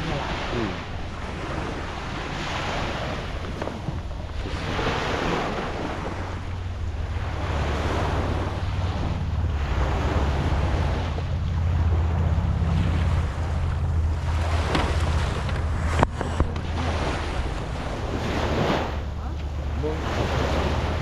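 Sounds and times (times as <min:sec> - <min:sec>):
low rumble: 0:00.0 - 0:21.0
water waves washing: 0:00.0 - 0:21.0
wind buffeting microphone: 0:00.0 - 0:21.0.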